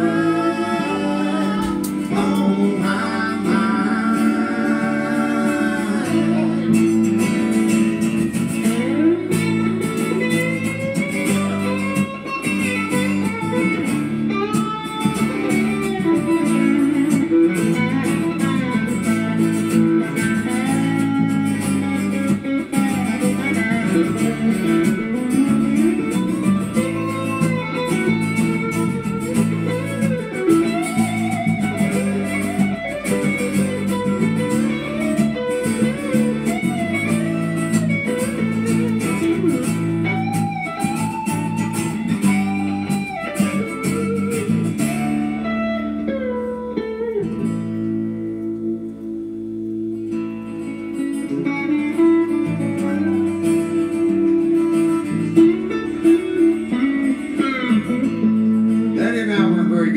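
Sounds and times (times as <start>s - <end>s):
country rock band playing: 0.0s - 59.9s
lead guitar bending notes: 0.0s - 59.9s.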